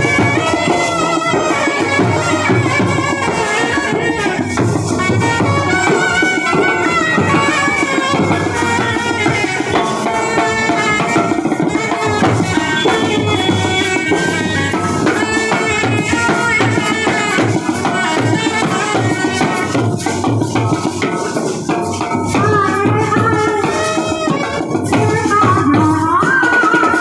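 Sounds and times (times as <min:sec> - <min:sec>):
brass band playing: 0:00.0 - 0:25.0
drums beating steady rhythm: 0:00.0 - 0:27.0.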